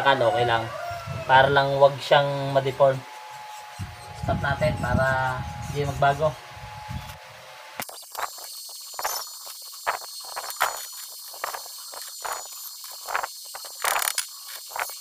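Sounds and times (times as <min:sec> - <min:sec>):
steady high whine: 0:00.0 - 0:15.0
welding arc crackling: 0:01.5 - 0:15.0.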